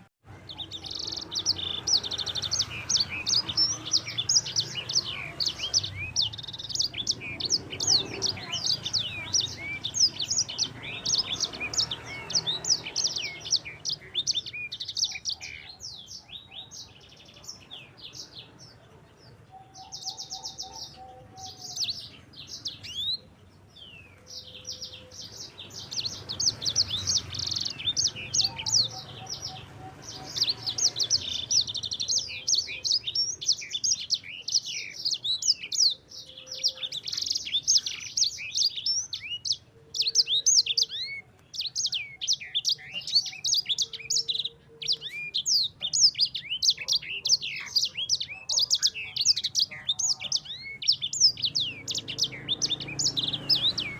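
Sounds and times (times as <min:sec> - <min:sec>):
songbird singing rolling chirps: 0:00.0 - 0:53.9.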